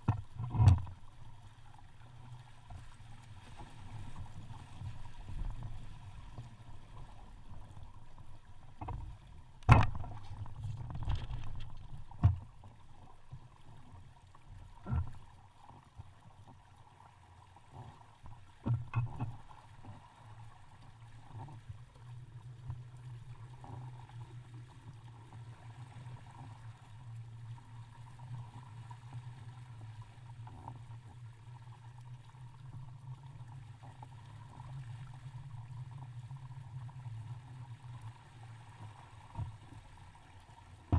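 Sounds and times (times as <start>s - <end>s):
water rushing against hull: 0.0s - 40.9s.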